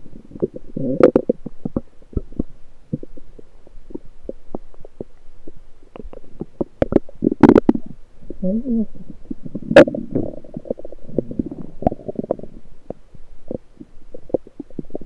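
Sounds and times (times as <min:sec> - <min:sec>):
bowel gurgling: 0:00.3 - 0:05.1, 0:06.0 - 0:15.0.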